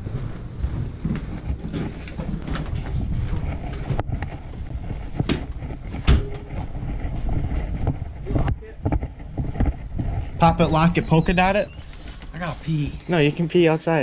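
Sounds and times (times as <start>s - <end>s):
footsteps: 0.0s - 13.4s.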